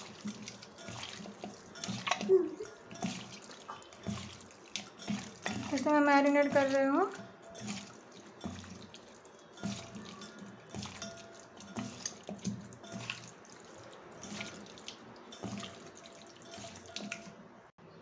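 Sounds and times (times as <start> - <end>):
wet squelches of meat by hand: 0.0 - 5.8, 7.6 - 17.4.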